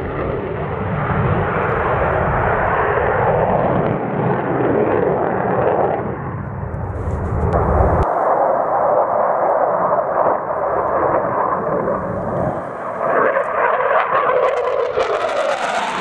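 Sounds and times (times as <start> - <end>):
jet engine overhead: 0.0 - 16.0.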